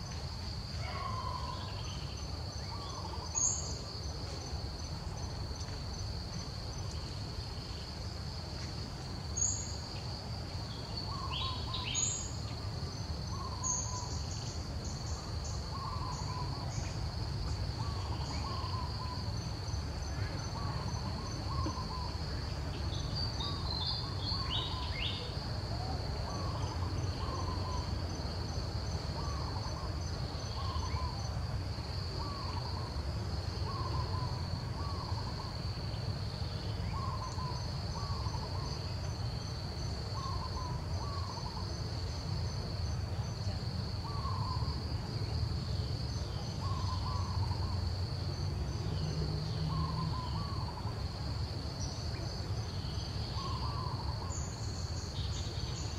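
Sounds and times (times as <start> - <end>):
insects buzzing: 1.5 - 55.9.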